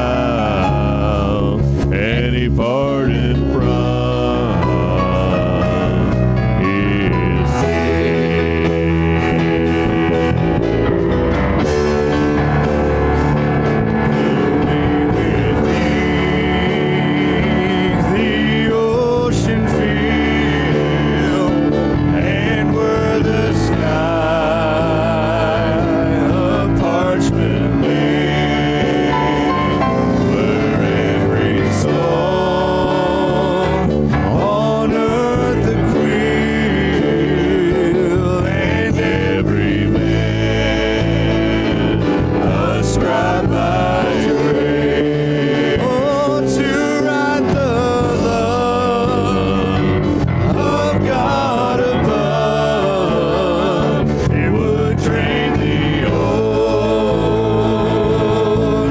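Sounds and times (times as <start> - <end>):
drum kit: 0.0 - 58.9
keyboard: 0.0 - 58.9
person singing with vibrato: 0.0 - 58.9.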